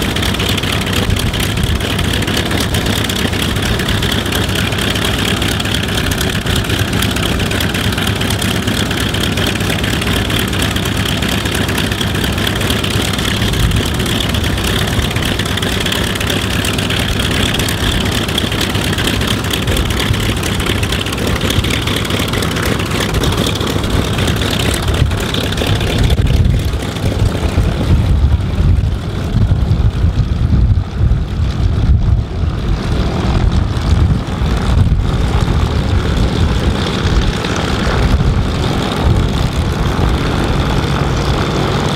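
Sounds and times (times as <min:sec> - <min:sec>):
gusty low rumble: 0:00.0 - 0:41.9
radial aircraft engine running: 0:00.0 - 0:41.9.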